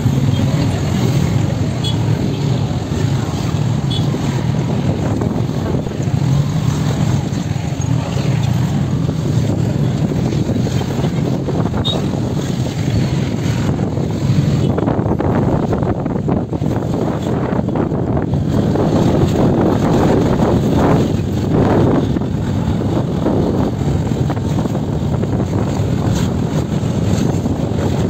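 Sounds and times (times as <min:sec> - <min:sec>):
street traffic: 0:00.0 - 0:28.0
wind on microphone: 0:00.0 - 0:28.0.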